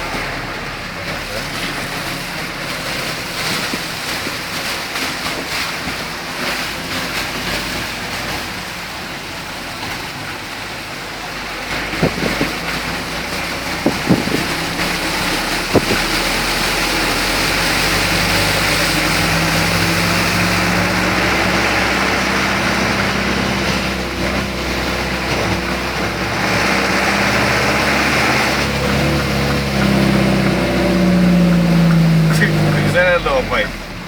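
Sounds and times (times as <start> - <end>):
low engine hum: 0.0 - 34.0
rain and tyre spray hiss: 0.0 - 34.0.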